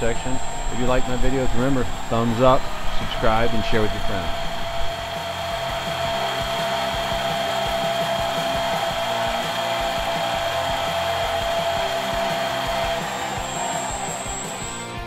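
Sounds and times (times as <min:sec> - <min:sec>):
lathe motor running: 0:00.0 - 0:15.0
steady whine: 0:00.0 - 0:15.0.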